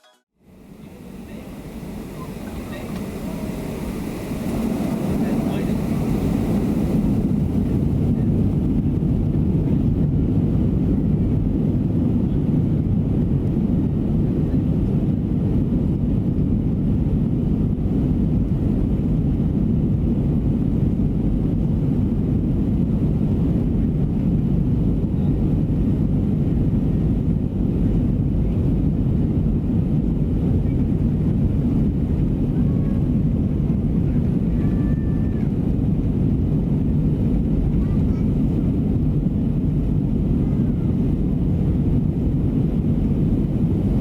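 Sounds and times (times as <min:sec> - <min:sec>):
airliner cabin engine rumble: 0:00.4 - 0:44.0.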